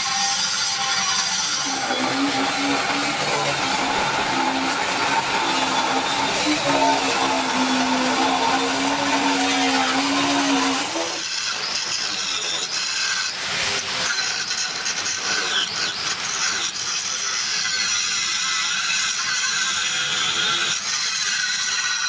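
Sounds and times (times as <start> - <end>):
harsh rough tool noise: 0.0 - 22.0
power tool whining: 0.0 - 22.0.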